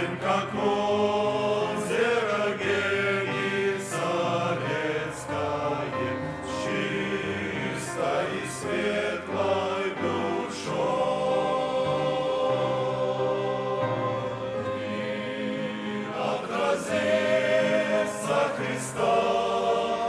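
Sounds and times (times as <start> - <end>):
men's choir singing a hymn: 0.0 - 20.0.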